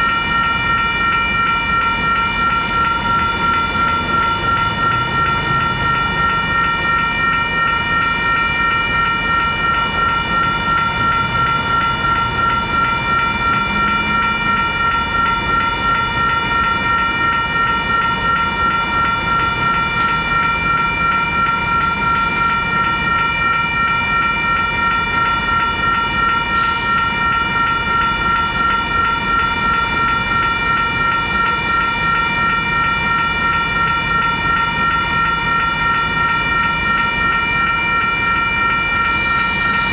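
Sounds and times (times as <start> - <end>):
railroad crossing bell ringing: 0.0 - 39.9.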